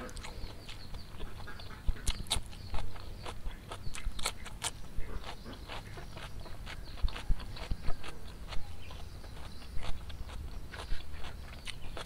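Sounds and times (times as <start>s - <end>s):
crisp cucumber bites: 0.0s - 12.0s
wet chewing and mouth clicks: 0.0s - 12.0s.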